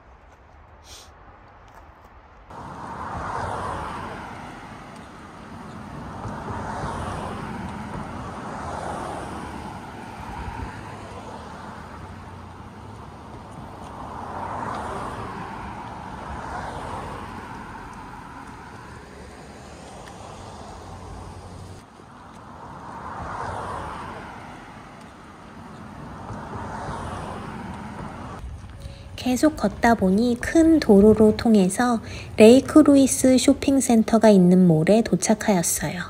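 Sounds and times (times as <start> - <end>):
cars passing on road: 0.0 - 36.0.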